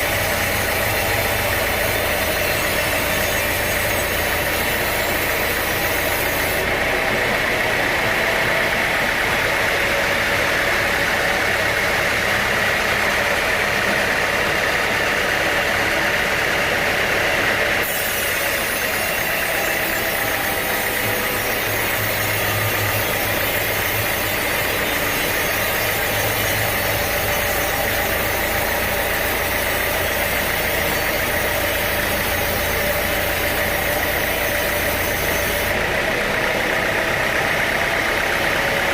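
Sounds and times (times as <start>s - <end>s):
sawmill machinery droning: 0.0s - 38.9s
steady high whine: 0.0s - 38.9s.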